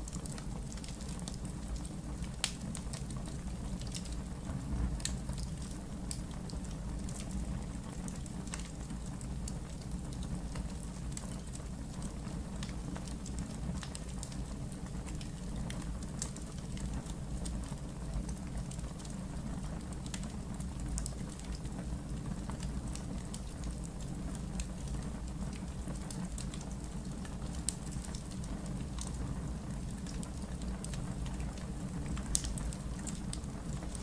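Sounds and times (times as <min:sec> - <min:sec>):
fire flames rumbling: 0:00.0 - 0:34.0
logs crackling and popping: 0:00.0 - 0:34.0.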